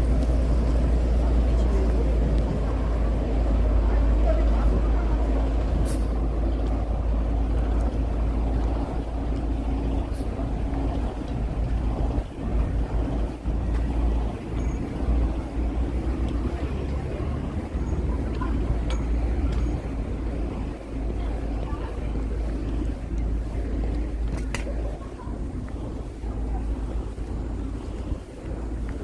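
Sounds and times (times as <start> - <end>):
road traffic rumble: 0.0 - 29.0
wind on microphone: 0.0 - 29.0.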